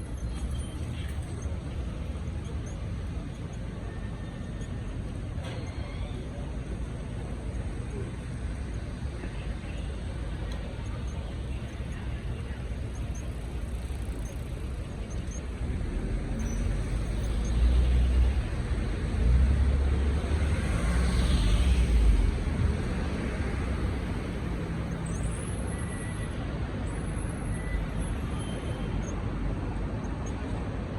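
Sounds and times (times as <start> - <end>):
street traffic: 0.0 - 30.9.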